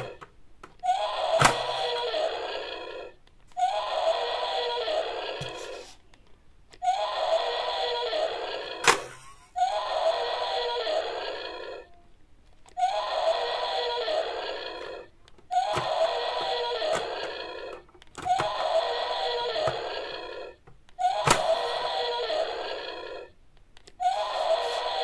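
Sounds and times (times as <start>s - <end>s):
electronic toy sound effect: 0.8s - 5.9s, 6.8s - 12.0s, 12.8s - 23.3s, 24.0s - 25.0s.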